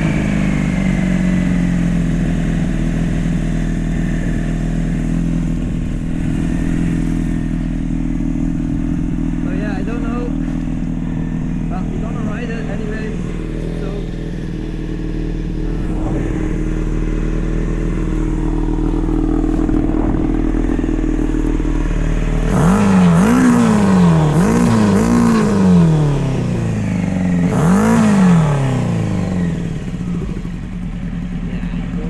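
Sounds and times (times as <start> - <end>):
small car engine revving: 0.0 - 32.0.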